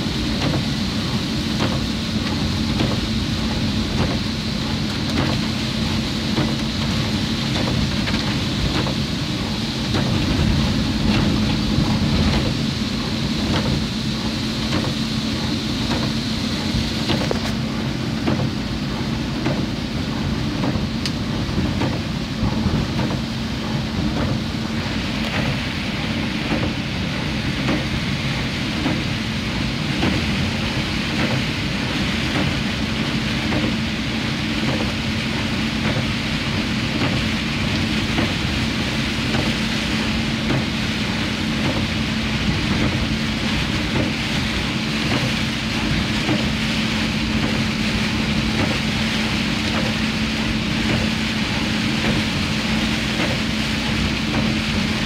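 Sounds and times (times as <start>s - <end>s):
rain hissing: 0.0s - 55.0s
tyres on wet road: 0.0s - 55.0s
vehicle engine hum: 0.0s - 55.0s.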